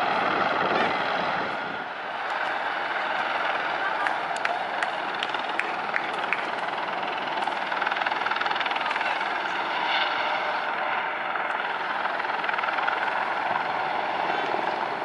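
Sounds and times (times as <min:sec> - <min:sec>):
helicopters passing overhead: 0:00.0 - 0:15.0.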